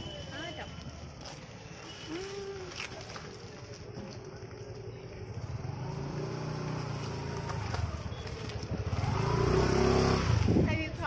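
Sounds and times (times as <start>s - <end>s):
vehicles passing by: 0.0s - 11.0s.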